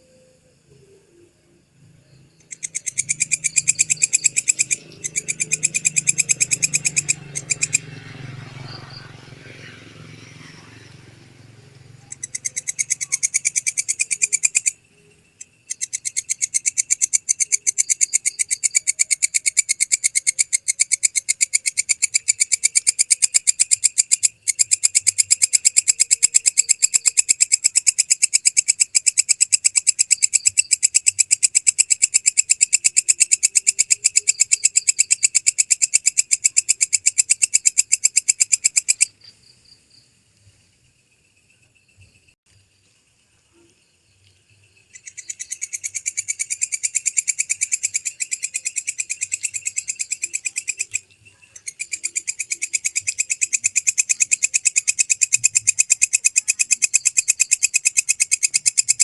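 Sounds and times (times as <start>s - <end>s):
katydid chirping: 0.0s - 59.0s.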